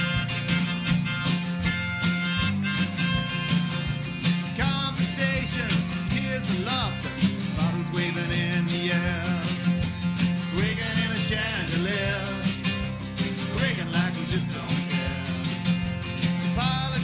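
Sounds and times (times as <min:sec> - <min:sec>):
country band music: 0:00.0 - 0:17.0
lead guitar bending pitch: 0:00.0 - 0:17.0.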